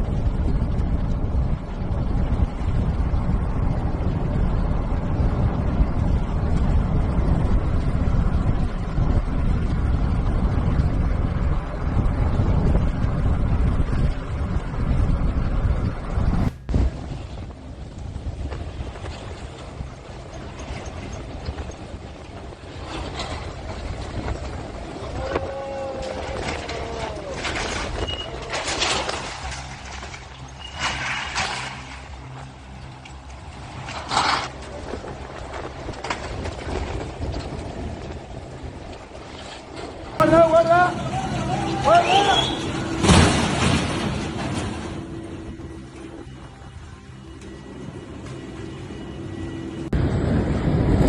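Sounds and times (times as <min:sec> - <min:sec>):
storm wind buffeting microphone: 0:00.0 - 0:51.0.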